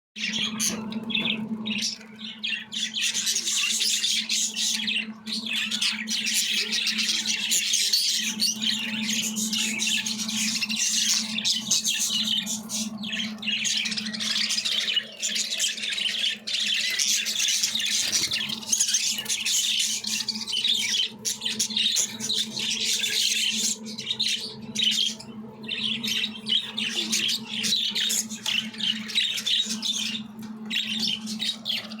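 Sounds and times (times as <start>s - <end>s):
budgerigars chattering and squawking: 0.2s - 32.0s.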